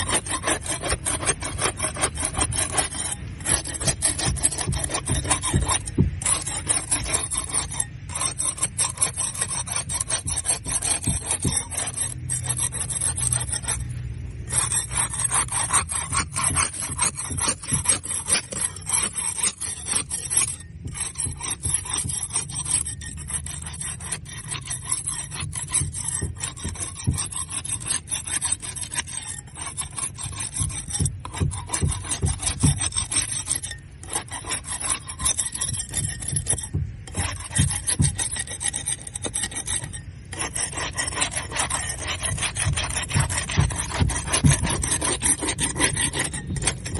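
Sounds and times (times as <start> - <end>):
barnacles scraped off hull: 0.0 - 46.9.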